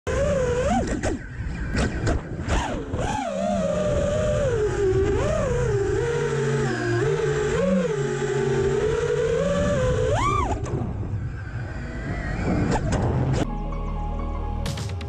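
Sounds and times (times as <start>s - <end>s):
quadcopter motors whining: 0.1s - 13.5s.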